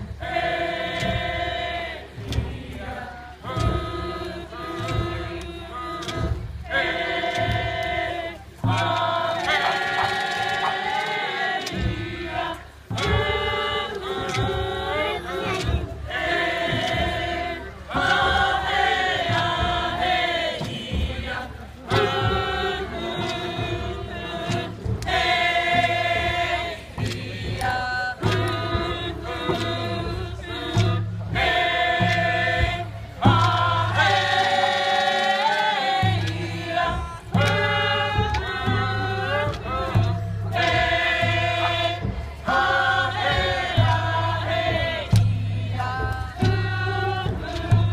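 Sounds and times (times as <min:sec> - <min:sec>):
group of voices singing: 0:00.0 - 0:47.9.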